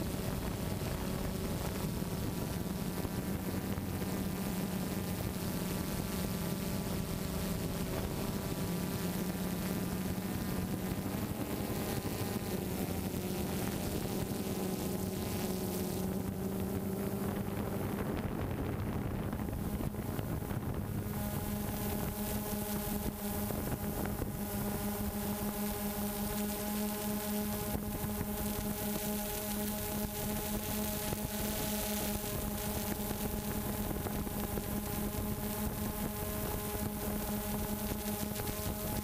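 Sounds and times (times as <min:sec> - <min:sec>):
drone buzzing hum: 0:00.0 - 0:39.0
wind hiss: 0:00.0 - 0:39.0.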